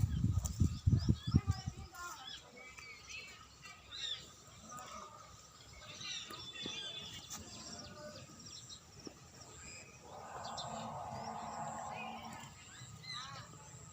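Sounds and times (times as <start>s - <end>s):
faint outdoor background noise: 0.0s - 13.9s
small birds chirping: 0.0s - 13.9s.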